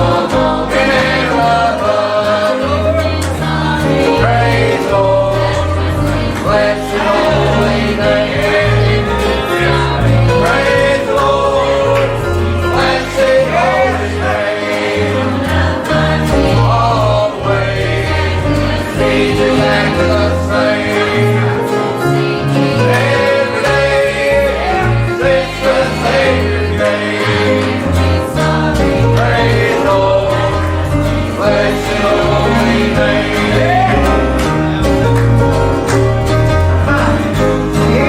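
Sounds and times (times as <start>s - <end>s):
choir singing a gospel hymn: 0.0s - 38.0s
instrumental accompaniment: 0.0s - 38.0s
steady bass line: 0.0s - 38.0s.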